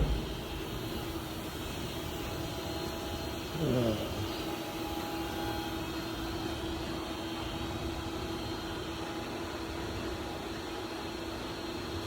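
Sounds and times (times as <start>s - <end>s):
machine hum and fan noise: 0.0s - 12.0s.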